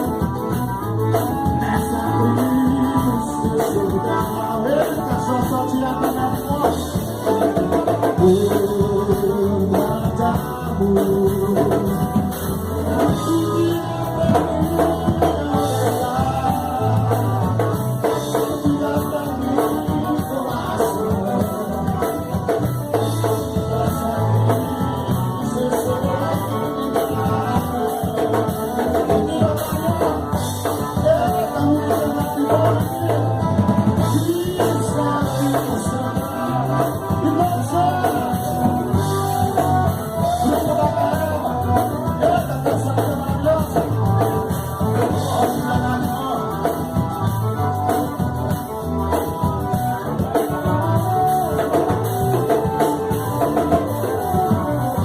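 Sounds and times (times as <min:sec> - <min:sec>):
drum kit beat: 0:00.0 - 0:55.0.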